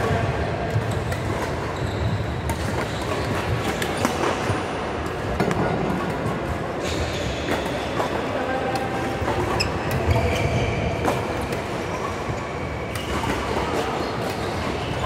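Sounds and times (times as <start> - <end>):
rackets hitting shuttlecock: 0.0 - 15.0
sports hall din: 0.0 - 15.0.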